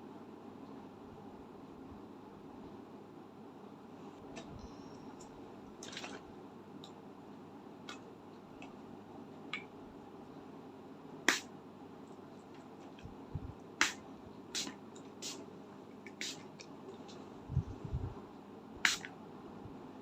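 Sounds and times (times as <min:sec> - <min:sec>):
faint room hum: 0:00.0 - 0:20.0.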